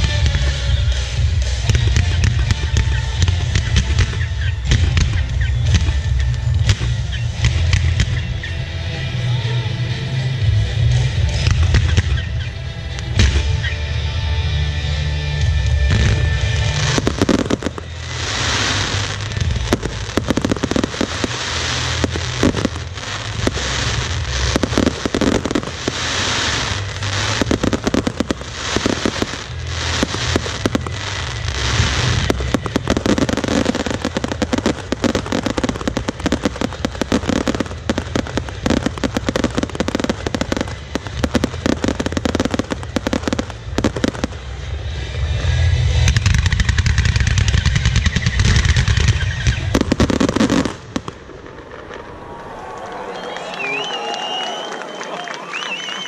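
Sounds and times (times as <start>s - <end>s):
fireworks bursts and crackling: 0.0s - 56.0s.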